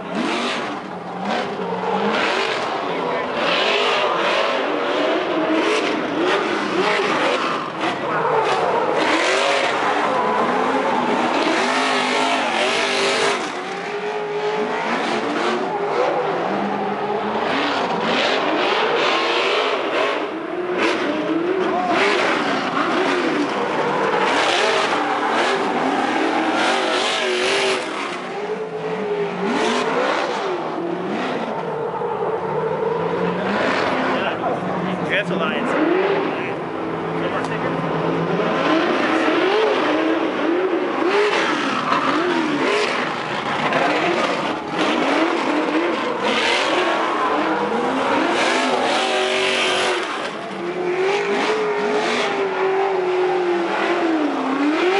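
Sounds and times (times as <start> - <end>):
race truck engines revving: 0.0 - 54.9.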